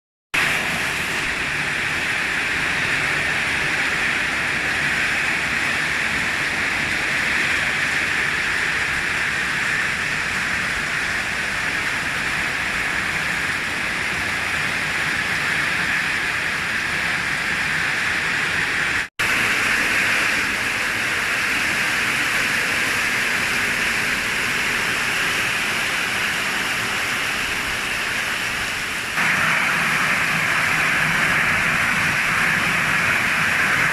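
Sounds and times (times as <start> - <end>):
torrential rain pouring: 0.4 - 33.9.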